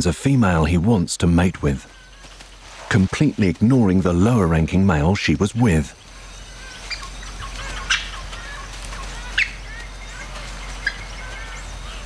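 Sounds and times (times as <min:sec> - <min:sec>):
forest birds chirping: 0:00.0 - 0:12.0
sharp loud bird calls: 0:00.0 - 0:12.0.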